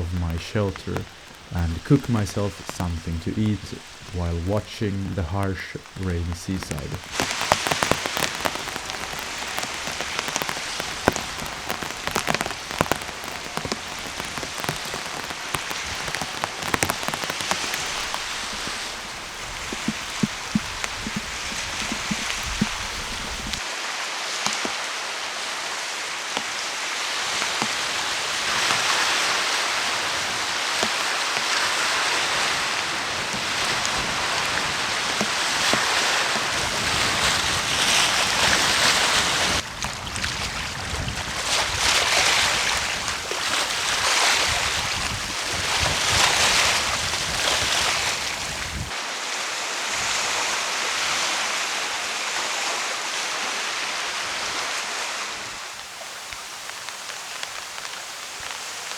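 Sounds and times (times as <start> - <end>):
heavy rain: 0.0 - 58.9
waves breaking on shore: 0.0 - 58.9
wind: 0.0 - 58.9.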